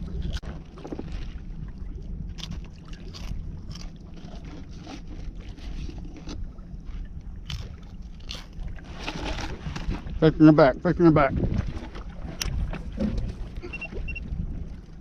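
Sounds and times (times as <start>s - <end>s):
low boat rumble: 0.0s - 15.0s.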